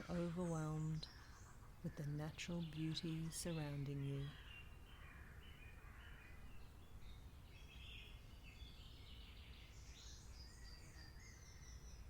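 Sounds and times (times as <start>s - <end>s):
faint bird calls and chirps: 0.0s - 12.0s.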